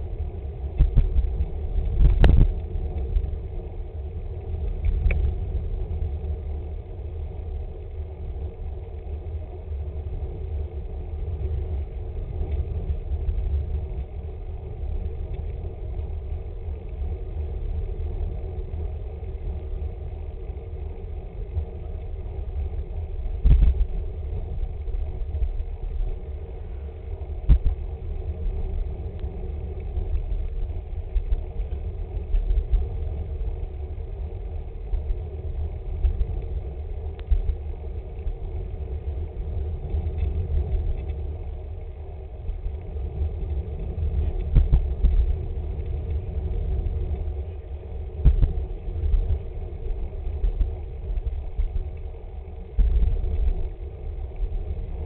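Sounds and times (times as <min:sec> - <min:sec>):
road rumble: 0:00.0 - 0:55.0.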